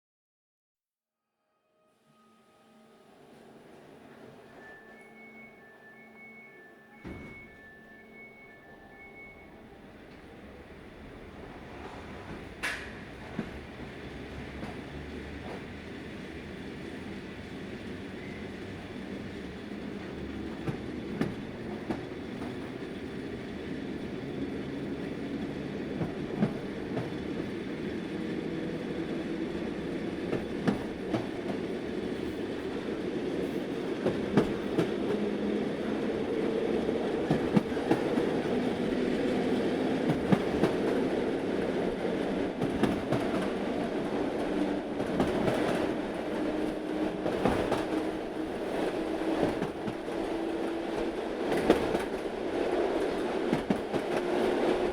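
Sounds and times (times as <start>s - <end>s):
train rumbling along track: 2.2s - 54.9s.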